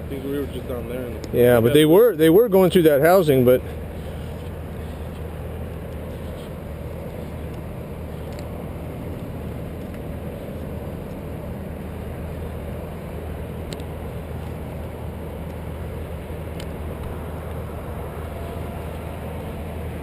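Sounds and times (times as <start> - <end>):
engine rumbling: 0.0 - 20.0.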